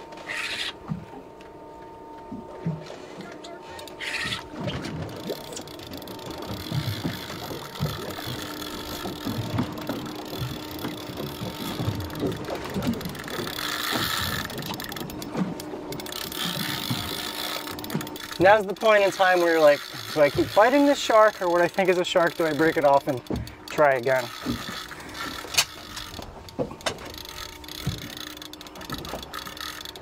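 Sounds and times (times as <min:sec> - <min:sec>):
fishing reel gears whirring: 0:00.1 - 0:30.0
fishing reel clicks: 0:05.1 - 0:30.0.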